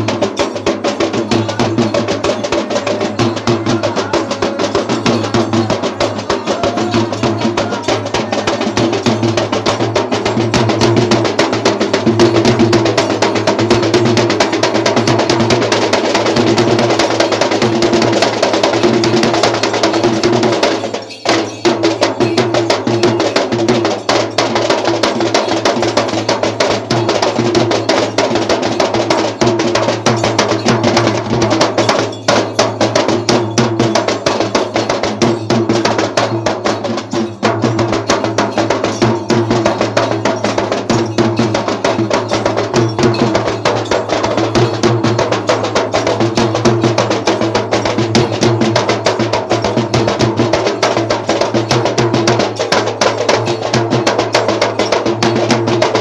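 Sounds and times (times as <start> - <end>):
hand drums fast rhythm: 0.0 - 56.0.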